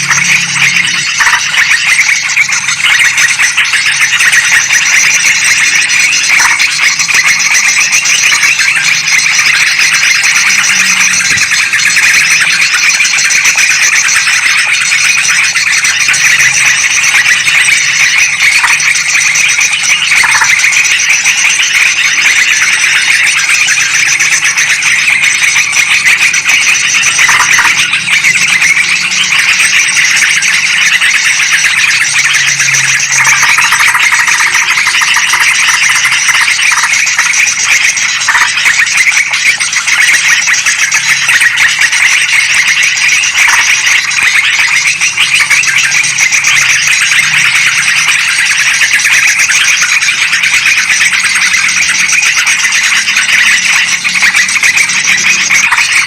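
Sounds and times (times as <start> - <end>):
bulbuls calling: 0.0 - 56.0.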